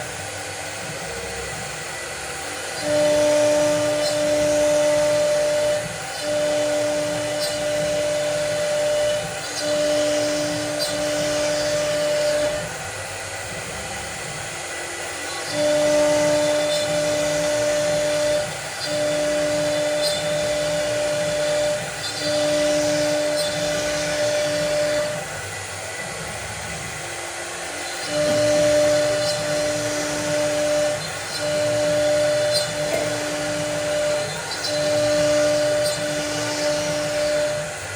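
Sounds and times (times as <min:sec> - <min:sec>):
machine spindle whining: 0:00.0 - 0:37.9.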